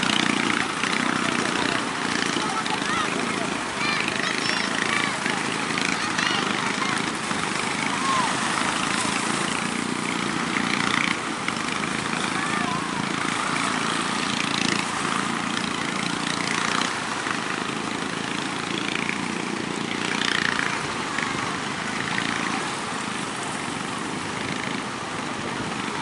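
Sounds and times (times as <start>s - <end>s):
small boat engine running: 0.0s - 26.0s
waves breaking: 0.0s - 26.0s
wind: 0.0s - 26.0s.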